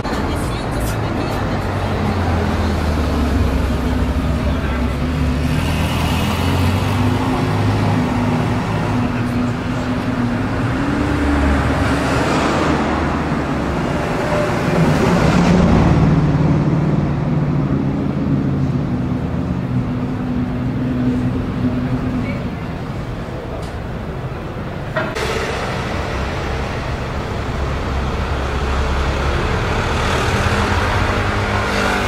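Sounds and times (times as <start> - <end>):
car engine idling and revving: 0.0 - 32.0
light street traffic: 0.0 - 32.0.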